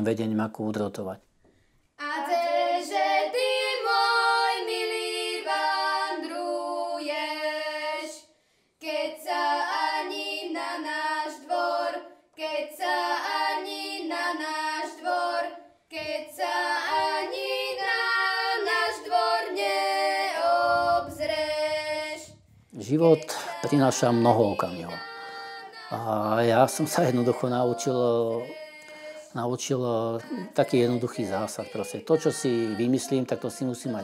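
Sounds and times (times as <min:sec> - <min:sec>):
girls singing: 0:02.0 - 0:34.0.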